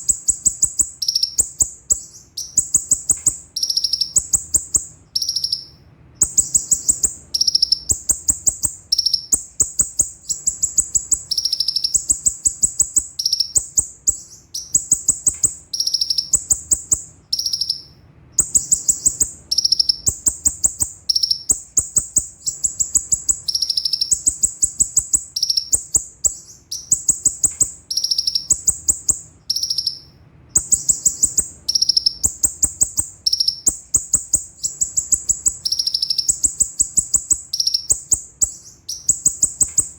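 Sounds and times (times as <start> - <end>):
bird singing high sharp notes: 0.0 - 39.9.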